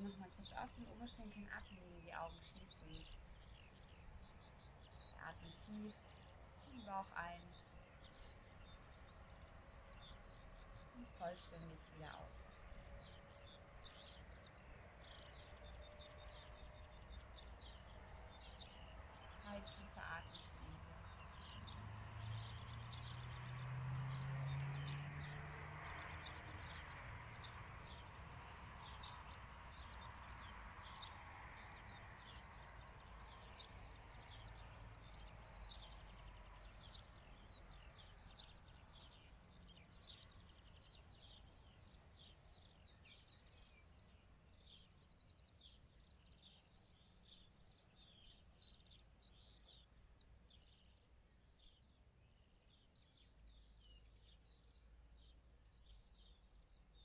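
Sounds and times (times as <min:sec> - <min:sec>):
faint songbirds chirping: 0:00.0 - 0:57.0.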